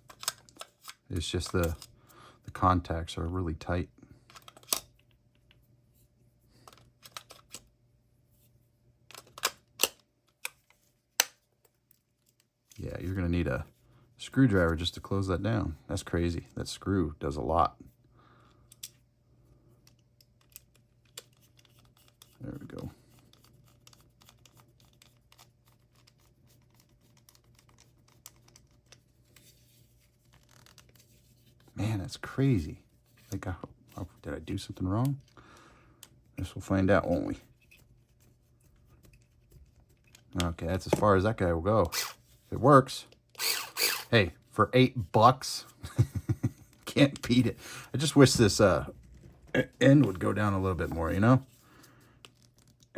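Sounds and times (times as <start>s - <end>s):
low room hum: 0.0s - 52.9s.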